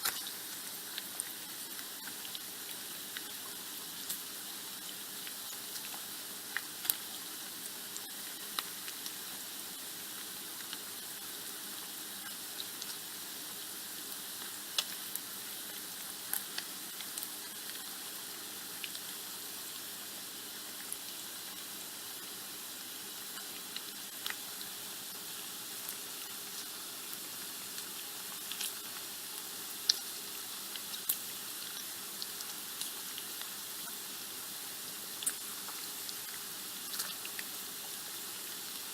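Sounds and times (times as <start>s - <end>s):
bacon sizzling in a pan: 0.0s - 38.9s.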